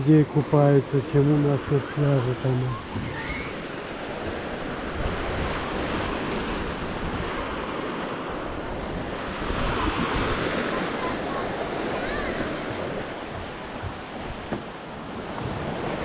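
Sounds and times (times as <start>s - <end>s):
sea surf washing onto beach: 0.0s - 16.0s
wind rumbling on microphone: 1.1s - 16.0s.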